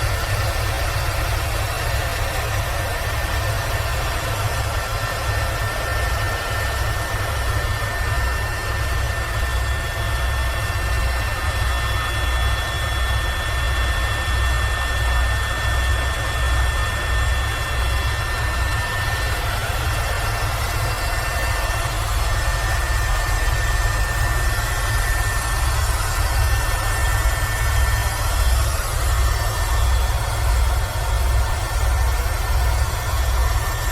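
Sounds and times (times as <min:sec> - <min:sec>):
helicopter rotor rumble: 0:00.0 - 0:33.9
high turbine whine: 0:00.0 - 0:33.9.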